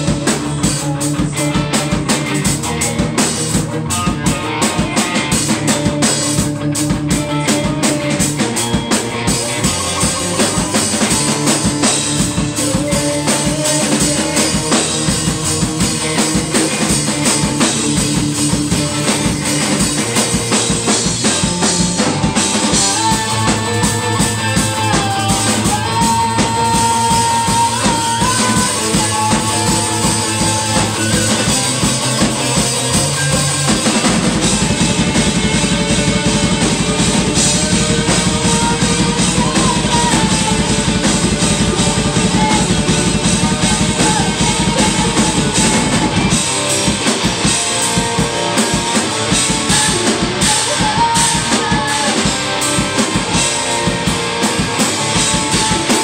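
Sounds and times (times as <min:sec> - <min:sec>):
live rock band playing: 0:00.0 - 0:56.0
steady drum beat: 0:00.0 - 0:56.0.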